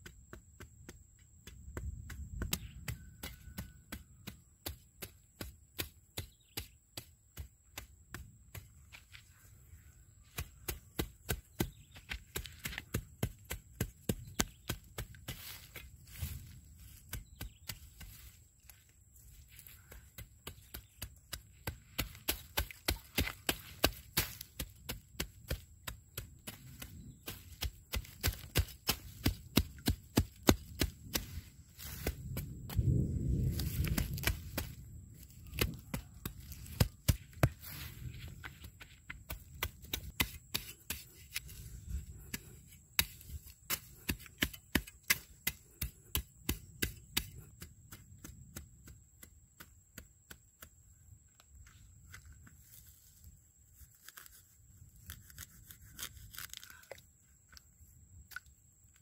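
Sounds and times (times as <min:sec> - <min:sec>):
hand tool hacking soil: 0:00.0 - 0:52.2.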